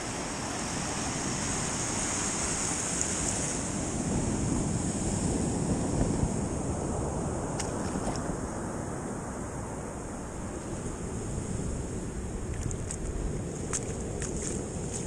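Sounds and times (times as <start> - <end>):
wind buffeting microphone: 0.0 - 8.8, 10.0 - 15.0
sea surf breaking on beach: 0.0 - 15.0.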